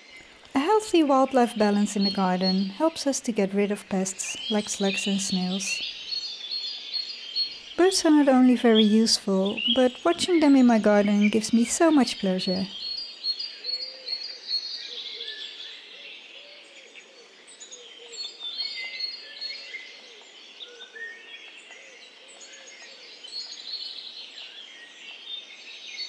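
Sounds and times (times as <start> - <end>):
birds chirping and singing: 0.0 - 26.0.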